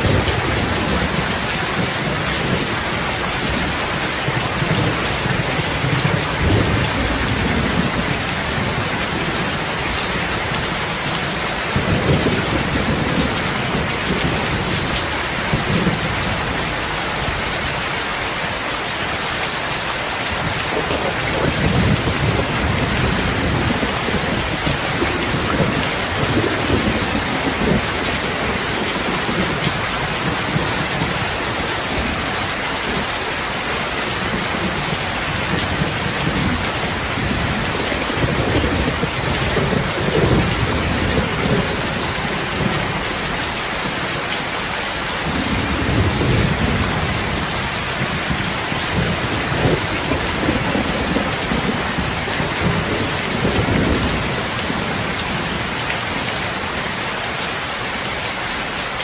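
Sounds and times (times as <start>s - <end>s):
low thunder rumbles: 0.0s - 17.8s, 20.3s - 43.6s, 45.2s - 56.4s
heavy steady rain: 0.0s - 59.0s.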